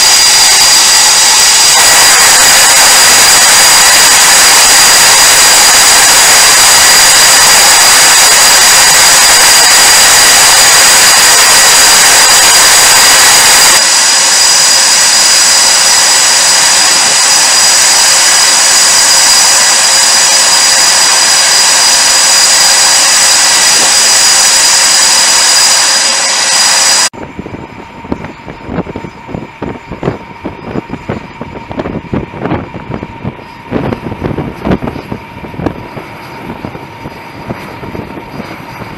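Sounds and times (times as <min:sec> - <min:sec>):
jet engine turbine whine: 0:00.0 - 0:38.9.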